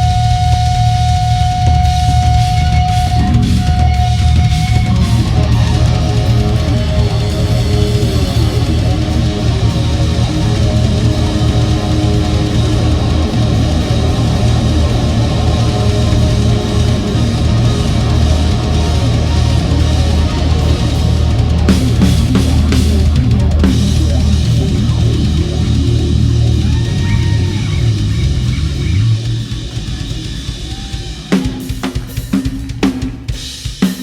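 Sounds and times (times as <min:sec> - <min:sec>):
drum and cymbal hits: 0:00.0 - 0:34.0
live rock band playing: 0:00.0 - 0:34.0.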